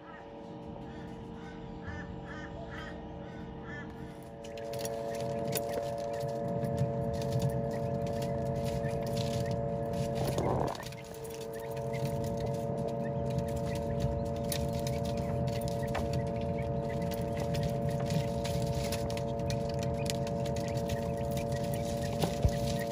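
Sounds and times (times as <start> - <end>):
steady hum: 0.0 - 22.9
chicks pecking on metal tray: 4.4 - 22.9.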